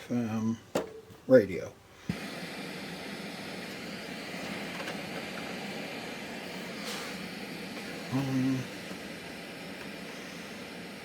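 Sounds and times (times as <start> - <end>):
radio static hiss: 2.0 - 11.0.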